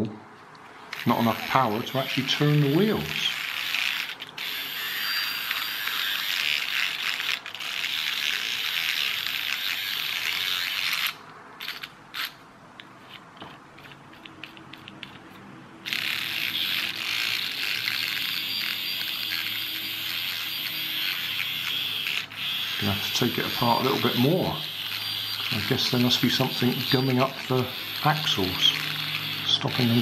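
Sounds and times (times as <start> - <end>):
toy car motor whirring: 0.9 - 30.0.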